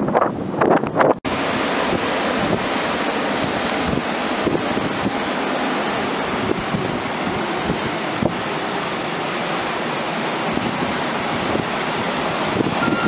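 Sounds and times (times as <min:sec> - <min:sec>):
rough surf breaking: 0:00.0 - 0:13.0
wind buffeting microphone: 0:00.0 - 0:13.0.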